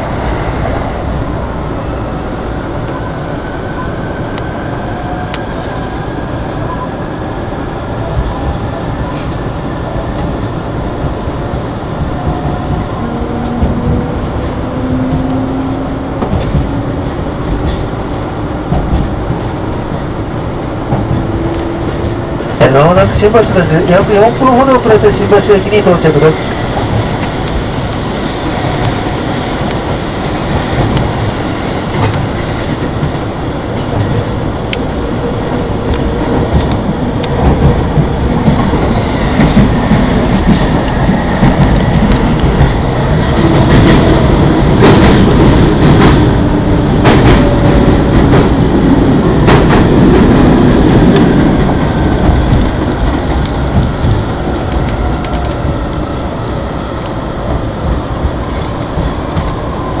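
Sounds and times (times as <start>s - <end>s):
train rumbling on rails: 0.0s - 60.0s.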